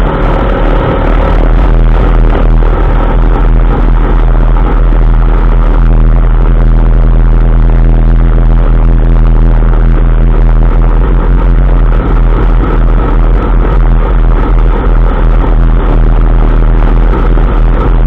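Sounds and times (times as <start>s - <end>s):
truck drivetrain drone: 0.0s - 18.0s.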